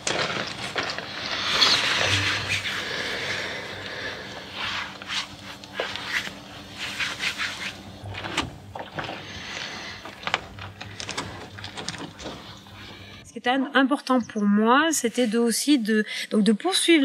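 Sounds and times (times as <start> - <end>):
faint low hum: 0.0 - 15.5.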